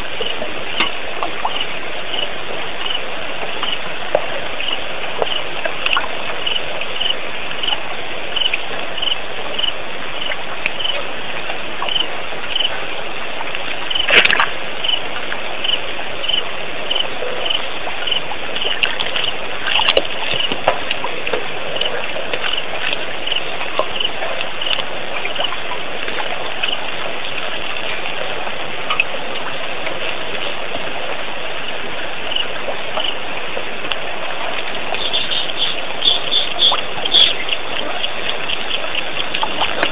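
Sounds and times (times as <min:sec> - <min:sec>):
steady noisy background: 0:00.0 - 0:39.9.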